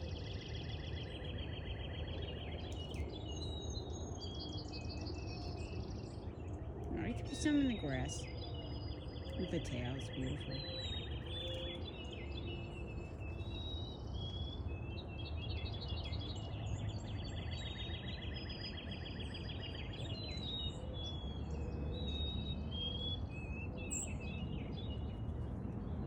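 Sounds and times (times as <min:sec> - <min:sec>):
songbirds singing and trilling: 0:00.0 - 0:26.0.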